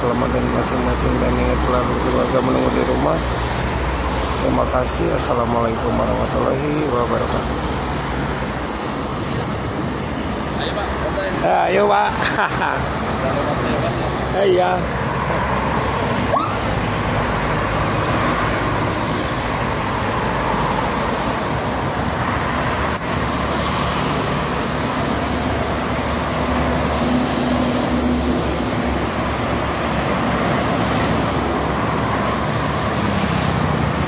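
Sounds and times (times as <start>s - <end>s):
dense highway traffic: 0.0s - 34.0s
truck engines humming: 0.0s - 34.0s.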